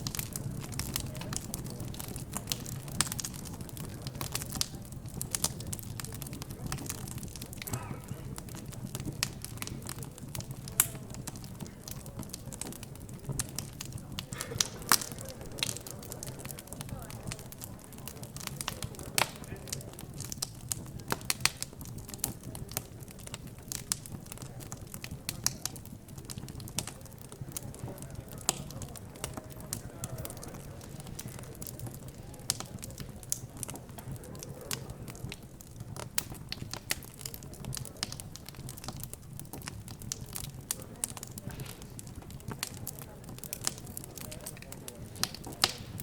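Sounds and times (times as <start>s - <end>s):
fire crackling and popping: 0.0s - 46.0s
murmur of background chatter: 0.0s - 46.0s.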